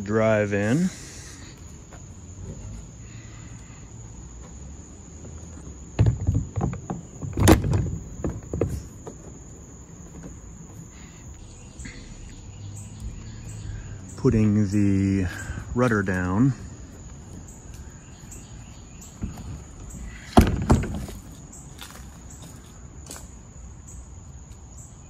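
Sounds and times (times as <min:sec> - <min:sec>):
high insect trill: 0:00.0 - 0:25.0.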